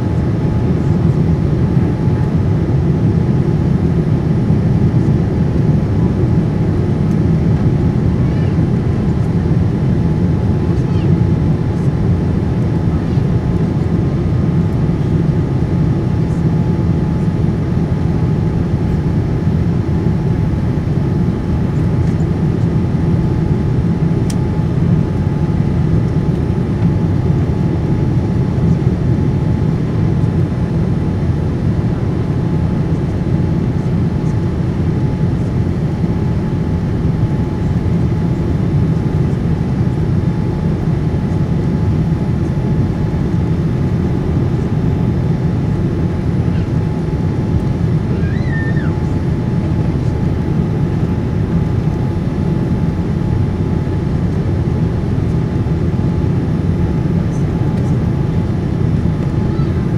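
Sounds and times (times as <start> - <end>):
airliner cabin rumble: 0.0 - 59.9
faint steady whine: 0.0 - 59.9.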